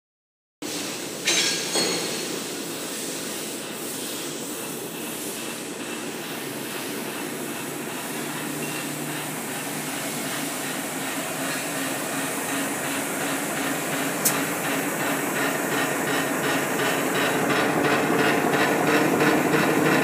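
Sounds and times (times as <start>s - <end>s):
machine running: 3.7s - 20.0s.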